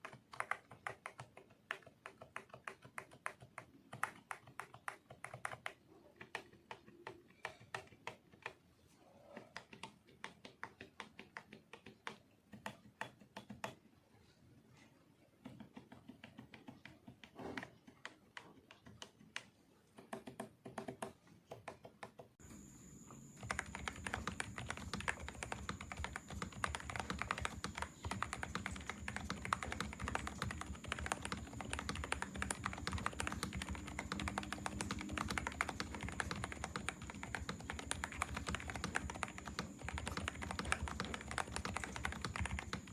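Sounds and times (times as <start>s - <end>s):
mechanical keyboard typing: 0.0s - 8.6s, 9.2s - 13.8s, 15.4s - 22.4s, 23.4s - 42.9s.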